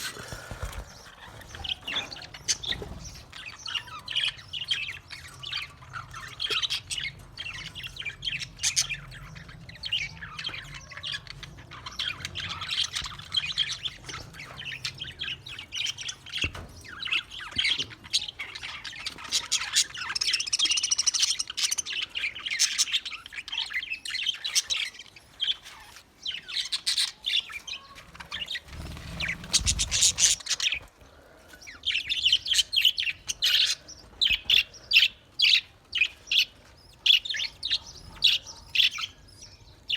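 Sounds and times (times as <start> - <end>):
budgerigars chattering and warbling: 0.0 - 31.0, 31.6 - 39.9.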